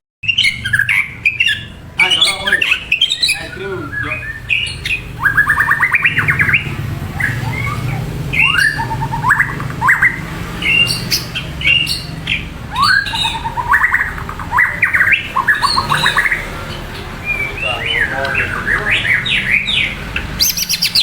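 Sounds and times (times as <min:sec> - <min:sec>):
songbird singing: 0:00.2 - 0:21.0.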